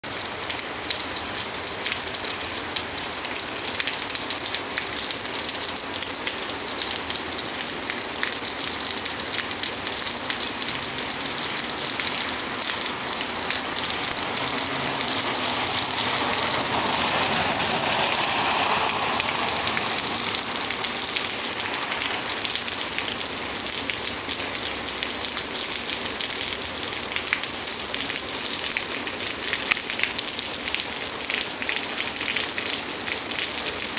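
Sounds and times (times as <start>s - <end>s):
rain shower: 0.0s - 33.9s.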